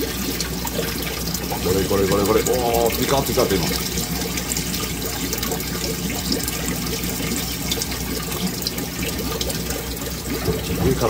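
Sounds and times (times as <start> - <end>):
aquarium water bubbling: 0.0 - 11.0.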